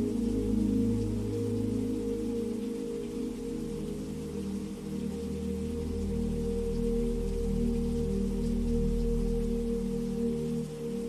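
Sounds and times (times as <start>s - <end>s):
ambient drone music: 0.0s - 11.0s
steady rain: 0.0s - 11.0s.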